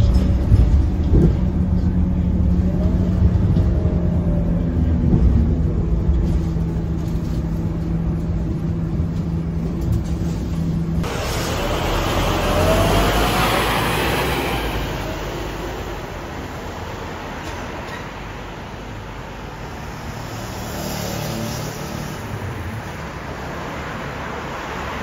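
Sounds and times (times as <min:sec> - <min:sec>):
bus diesel engine humming: 0:00.0 - 0:20.5
outdoor traffic noise: 0:00.0 - 0:25.0.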